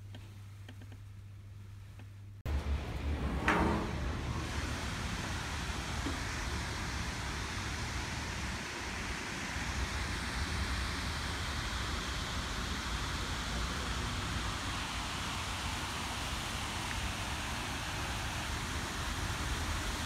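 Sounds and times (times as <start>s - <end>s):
outdoor rushing noise: 2.5s - 20.0s.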